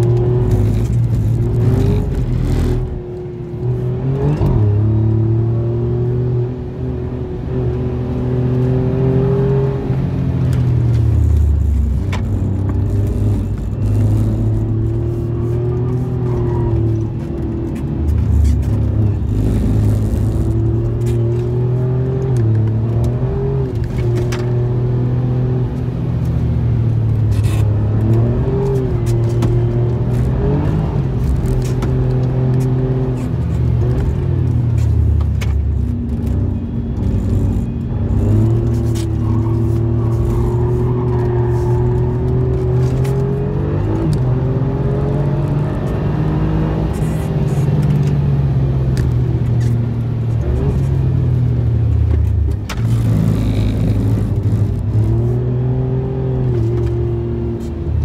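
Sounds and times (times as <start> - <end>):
car engine revving inside cabin: 0.0 - 58.0.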